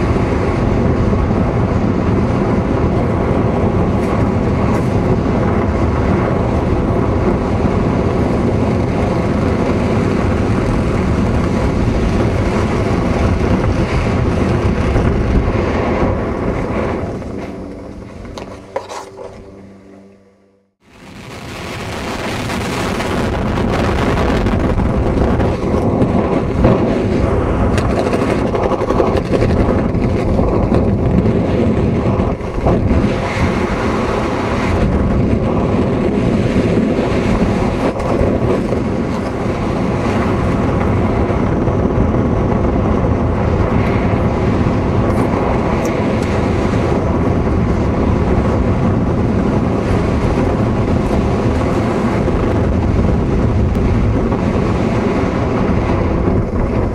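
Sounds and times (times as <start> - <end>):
airflow over microphone: 0.0 - 56.9.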